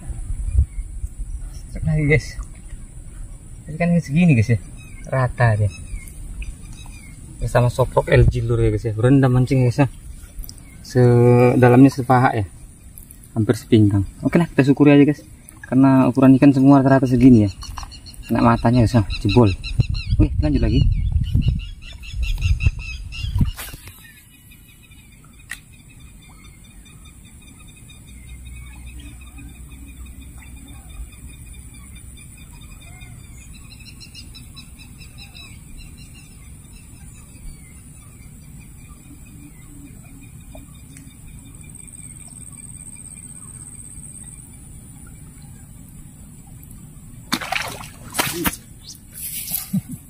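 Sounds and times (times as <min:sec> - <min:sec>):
birds singing and calling: 0:00.0 - 0:50.0.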